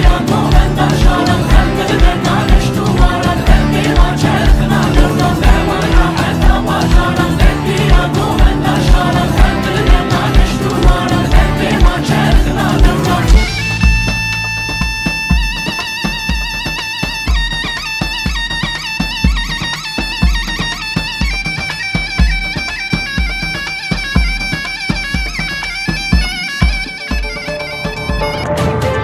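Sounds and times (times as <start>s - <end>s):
regular drum beat: 0.0s - 29.0s
wind instrument melody: 0.0s - 29.0s.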